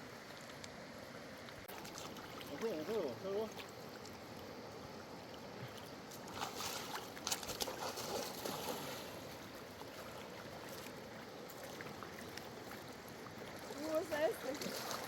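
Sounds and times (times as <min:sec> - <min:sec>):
water splashing and lapping: 0:00.0 - 0:15.0.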